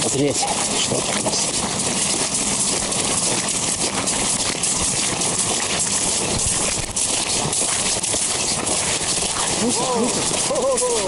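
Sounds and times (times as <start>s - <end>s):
rubber boots stepping on slushy ice: 0.0s - 11.0s
steady hiss: 0.0s - 11.0s.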